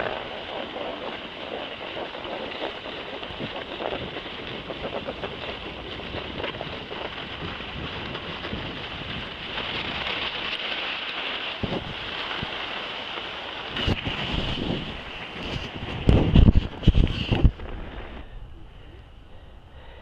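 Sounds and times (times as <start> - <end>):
wind rushing over microphone: 0.0 - 10.6, 11.5 - 12.6, 13.6 - 20.0
skis sliding over packed snow: 0.0 - 18.9.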